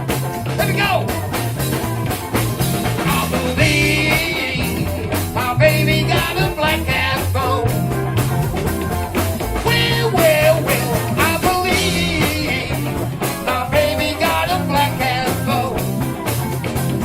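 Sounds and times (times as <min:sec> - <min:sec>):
bass line: 0:00.0 - 0:17.0
blues lead guitar solo: 0:00.0 - 0:17.0
drums: 0:00.0 - 0:17.0.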